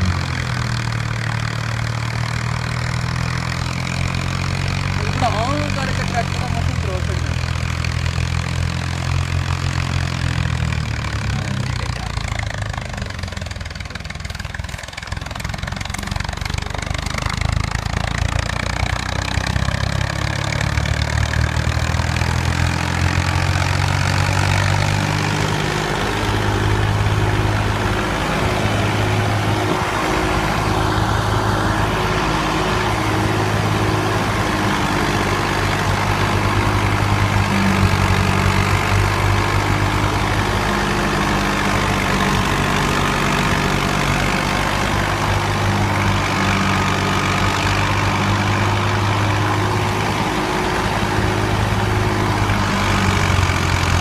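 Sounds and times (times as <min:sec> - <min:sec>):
tractor diesel engine running: 0:00.0 - 0:54.0
thresher machine noise: 0:02.8 - 0:54.0.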